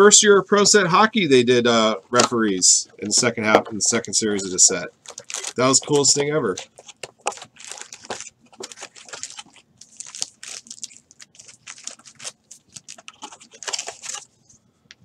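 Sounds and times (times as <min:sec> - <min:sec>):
foil wrappers crinkling: 0:02.1 - 0:14.4.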